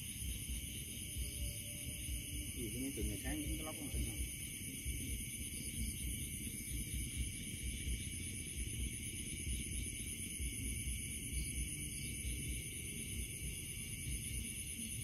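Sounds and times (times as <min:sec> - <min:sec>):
night insects chorus: 0:00.0 - 0:15.0.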